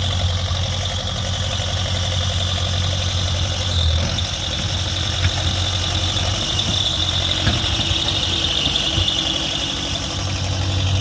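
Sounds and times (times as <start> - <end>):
backhoe engine running: 0.0 - 11.0
plow blade pushing snow: 0.0 - 11.0.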